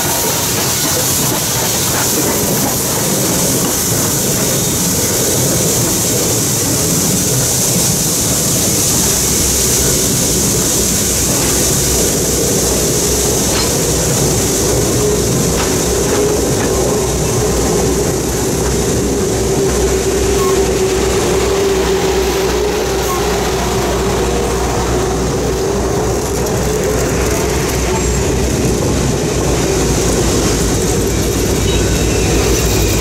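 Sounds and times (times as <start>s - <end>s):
rail-joint clicks: 0.0s - 33.0s
train wheels rumbling on rails: 0.0s - 33.0s.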